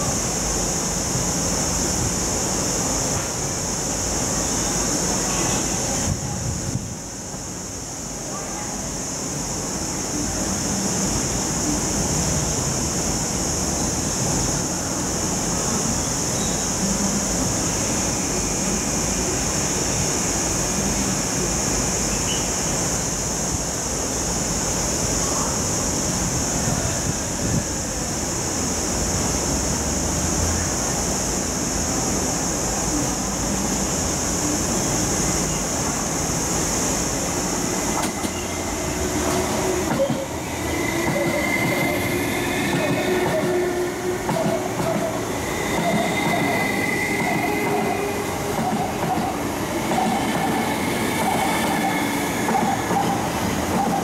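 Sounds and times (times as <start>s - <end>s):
high hiss: 0.0s - 54.0s
train rumbling on rails: 0.0s - 54.0s.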